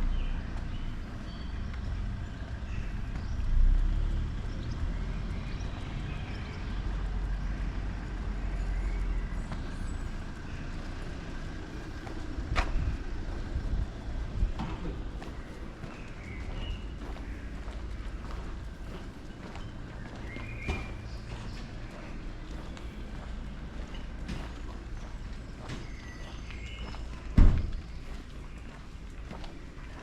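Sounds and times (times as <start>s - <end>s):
motor traffic rumble: 0.0s - 30.0s.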